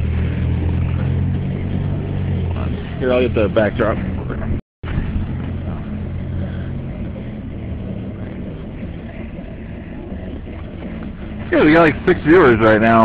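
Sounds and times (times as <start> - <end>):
low background rumble: 0.0 - 13.0
vehicle engine idling: 0.0 - 13.0.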